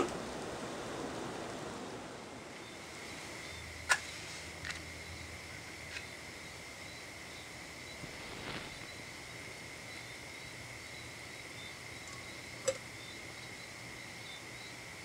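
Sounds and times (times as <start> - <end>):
insect chorus chirring: 0.1 - 15.0.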